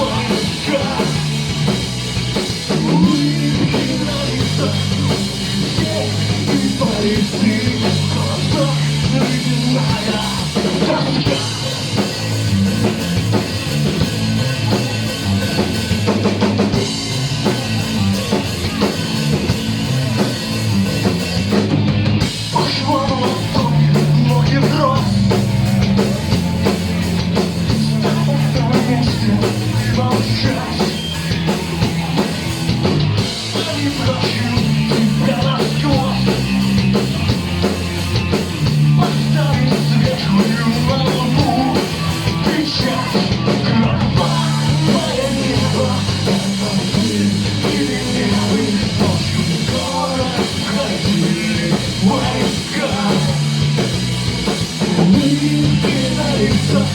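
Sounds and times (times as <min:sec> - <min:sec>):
bass line: 0:00.0 - 0:56.9
dense guitars: 0:00.0 - 0:56.9
drum kit: 0:00.0 - 0:56.9
heavy rock band playing: 0:00.0 - 0:56.9.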